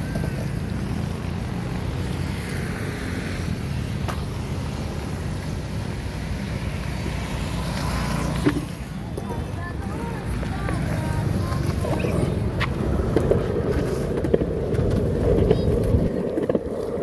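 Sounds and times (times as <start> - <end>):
skateboard wheels rolling on pavement: 0.0 - 17.0.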